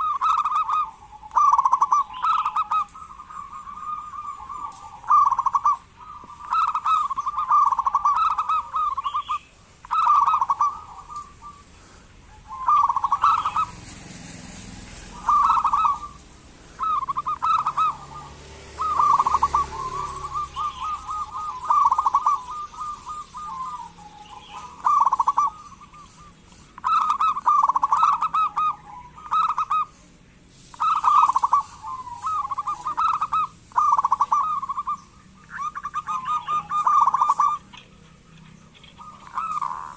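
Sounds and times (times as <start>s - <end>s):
dove rattling call: 0.0s - 39.9s.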